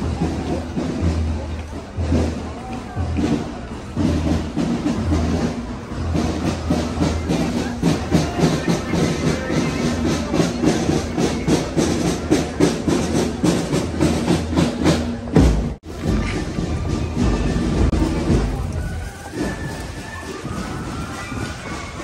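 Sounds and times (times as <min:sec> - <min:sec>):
marching band music: 0:00.0 - 0:22.0.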